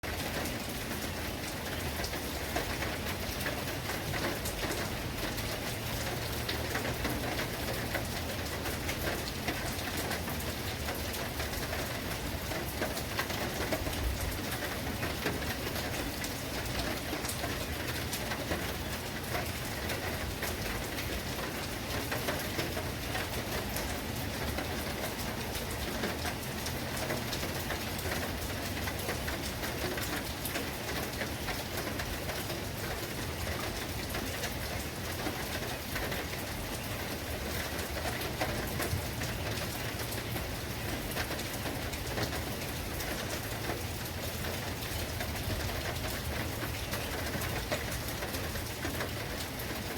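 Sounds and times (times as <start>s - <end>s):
heavy rain patter: 0.0s - 49.9s.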